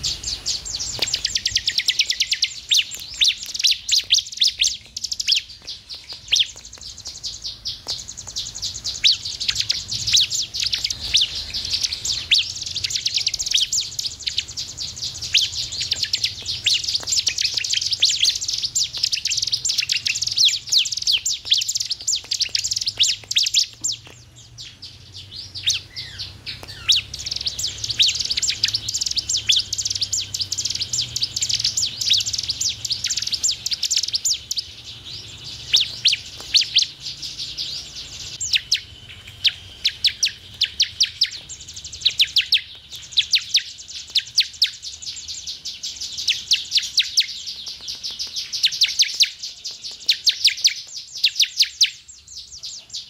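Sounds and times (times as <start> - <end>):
bird singing high chatter: 0.0 - 53.0.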